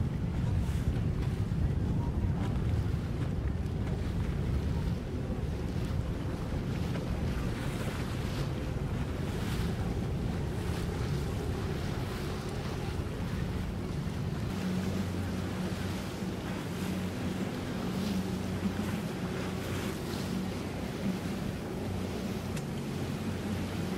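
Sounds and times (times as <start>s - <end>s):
boat engine running: 0.0s - 23.9s
water and waves: 0.0s - 23.9s
wind on microphone: 0.0s - 23.9s.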